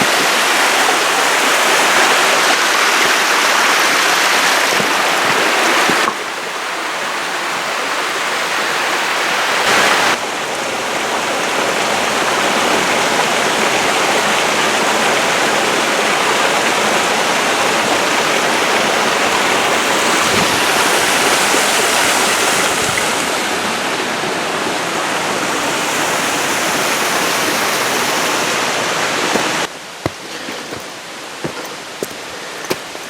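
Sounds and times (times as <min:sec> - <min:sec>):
rushing creek water: 0:00.0 - 0:33.0.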